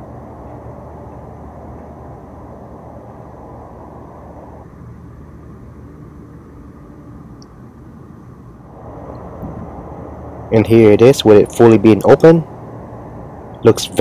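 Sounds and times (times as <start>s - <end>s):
low outdoor background rumble: 0.0s - 14.0s.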